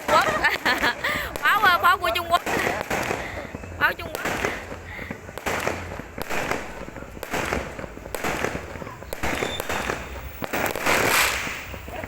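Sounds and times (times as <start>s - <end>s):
fireworks bangs: 0.0s - 12.0s
fireworks crackling burst: 0.0s - 12.0s.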